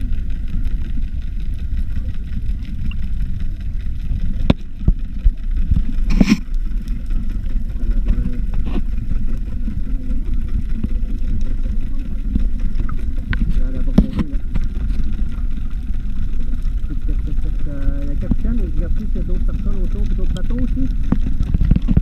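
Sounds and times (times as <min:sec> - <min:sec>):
faint clicks: 0:00.0 - 0:22.0
muffled underwater water rumble: 0:00.0 - 0:22.0.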